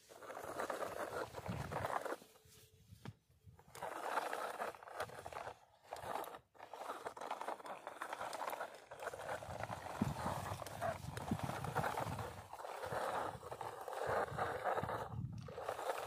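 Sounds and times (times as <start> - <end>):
toy truck wheels scraping sand: 0.0 - 16.0.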